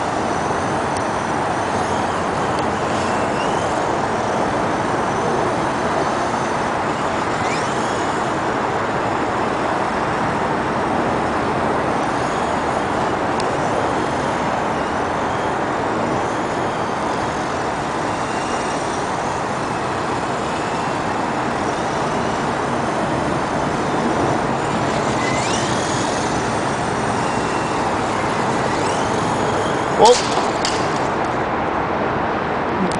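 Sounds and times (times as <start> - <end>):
electric motor whine: 0.0 - 32.6.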